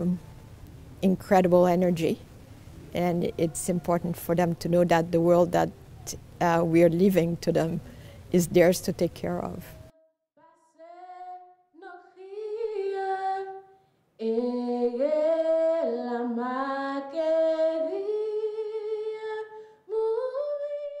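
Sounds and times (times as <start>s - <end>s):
woman singing unaccompanied: 0.0s - 0.3s, 1.0s - 2.2s, 2.9s - 7.8s, 8.4s - 21.0s.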